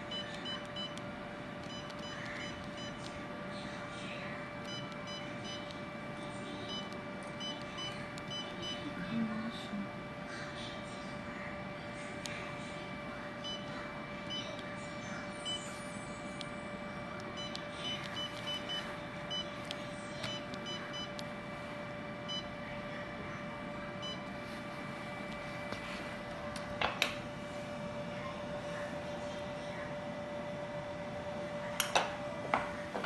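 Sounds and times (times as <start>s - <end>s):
machine steady hum: 0.0s - 33.0s.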